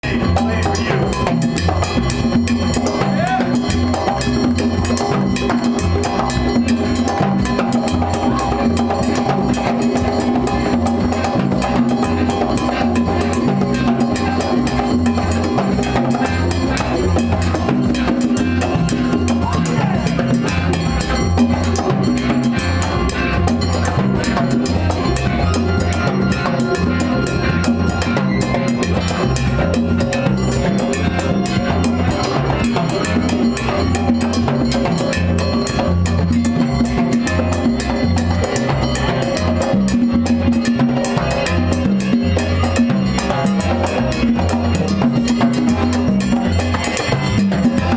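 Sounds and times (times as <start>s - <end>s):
band playing upbeat tune: 0.0s - 47.9s
drum kit beat: 0.0s - 47.9s.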